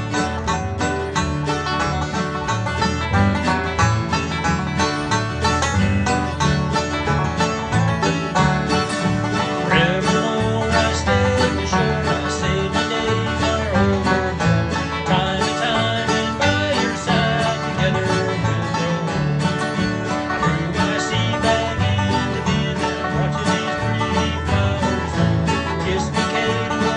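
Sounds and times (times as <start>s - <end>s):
fast plucked string-band music: 0.0s - 26.9s.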